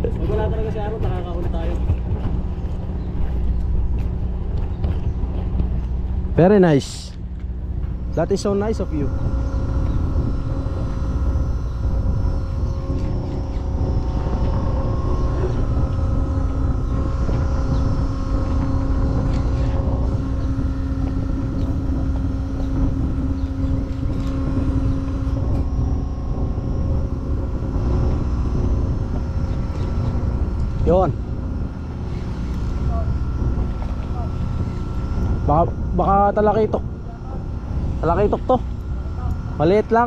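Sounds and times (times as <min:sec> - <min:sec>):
engine droning: 0:00.0 - 0:40.0.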